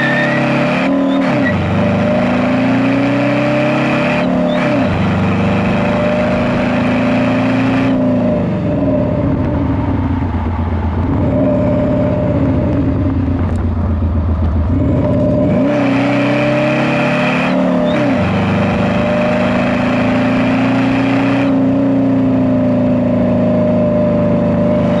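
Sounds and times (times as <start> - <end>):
car engine revving and shifting: 0.0 - 25.0.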